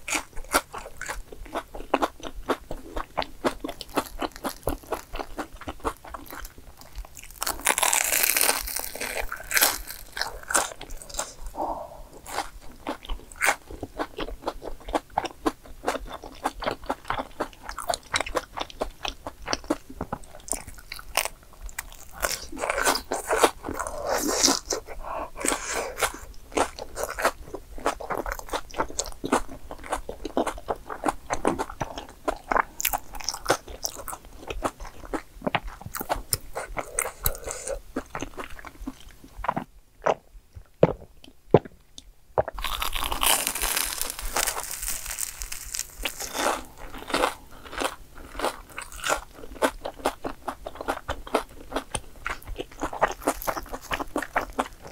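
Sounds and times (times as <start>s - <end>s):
crunching and chewing food: 0.0s - 54.9s.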